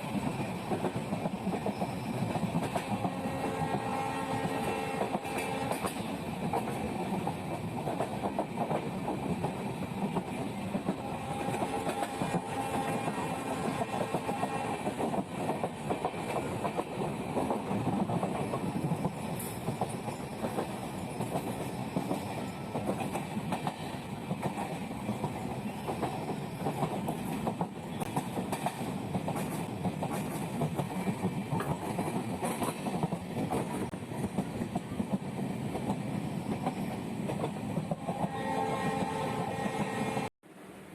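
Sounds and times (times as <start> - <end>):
train running: 0.0 - 40.9.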